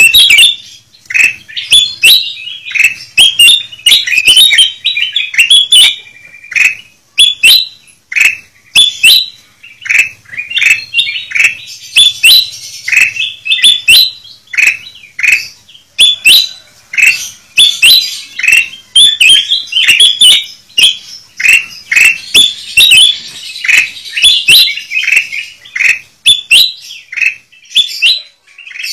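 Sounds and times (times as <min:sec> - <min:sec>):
flock of birds chirping: 0:00.0 - 0:28.9.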